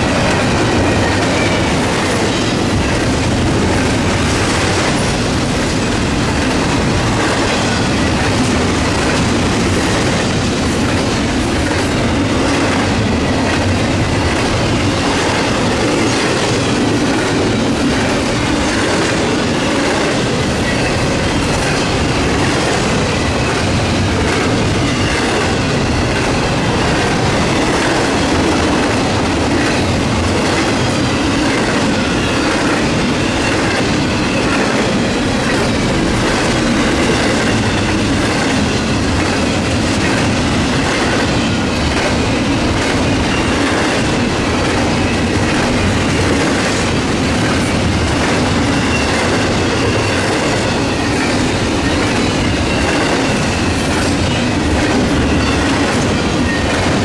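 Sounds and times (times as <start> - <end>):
railroad cars rumbling past: 0.0 - 57.0.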